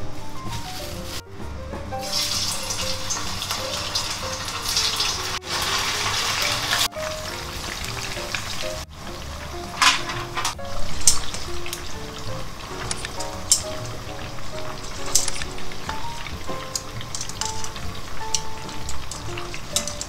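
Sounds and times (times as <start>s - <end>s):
background music: 0.0s - 20.0s
fish frying in oil: 2.0s - 20.0s.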